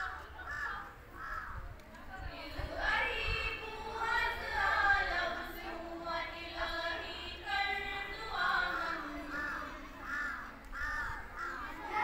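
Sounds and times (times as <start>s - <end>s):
children singing a prayer song: 2.3s - 12.0s.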